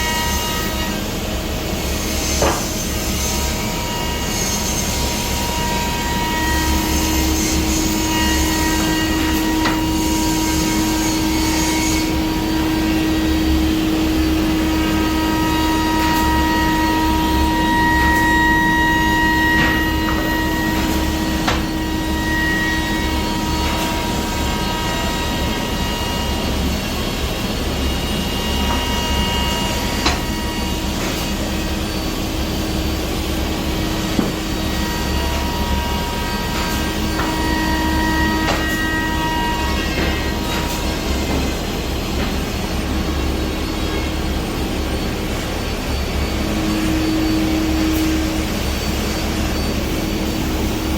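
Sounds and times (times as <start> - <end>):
machine spindle whine: 0.0 - 50.9.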